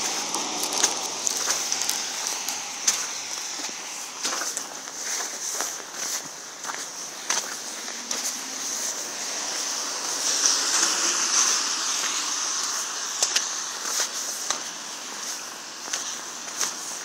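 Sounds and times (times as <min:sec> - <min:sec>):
footsteps crunching in snow: 0:00.0 - 0:17.0
tyres hissing on wet road: 0:00.0 - 0:17.0.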